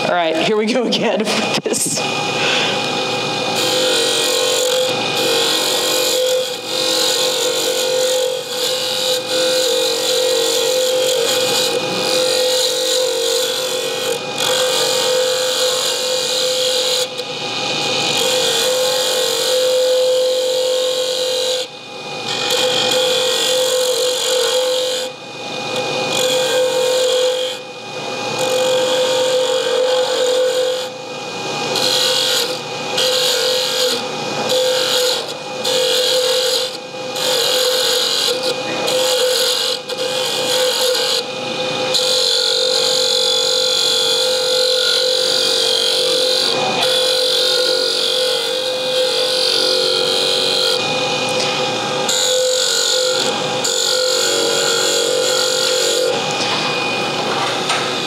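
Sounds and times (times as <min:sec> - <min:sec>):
lathe motor hum: 0:00.0 - 0:58.0
rasping scrape on wood lathe: 0:02.3 - 0:17.2, 0:18.1 - 0:25.1, 0:28.4 - 0:31.0, 0:31.6 - 0:41.2, 0:41.9 - 0:50.9, 0:52.1 - 0:57.0.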